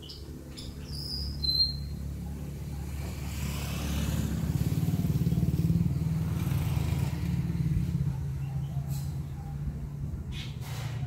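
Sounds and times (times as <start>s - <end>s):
engine humming: 0.0s - 10.4s.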